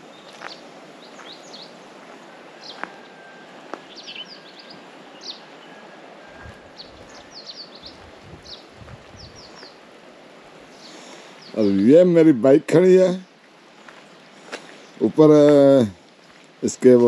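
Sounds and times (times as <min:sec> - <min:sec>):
small birds chirping: 0:00.0 - 0:09.9, 0:10.6 - 0:12.2, 0:12.8 - 0:17.0
steady outdoor hiss: 0:00.0 - 0:17.0.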